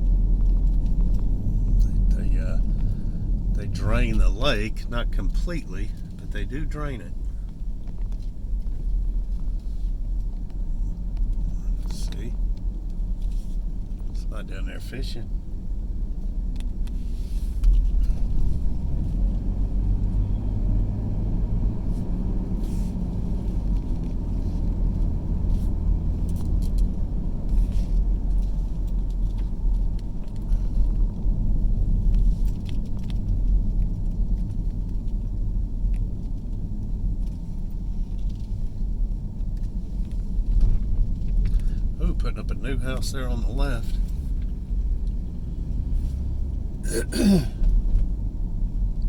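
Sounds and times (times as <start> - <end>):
car engine and road rumble: 0.0 - 49.0.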